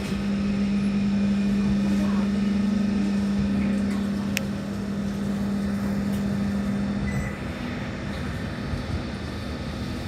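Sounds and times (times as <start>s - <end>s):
tram hum: 0.0s - 10.0s.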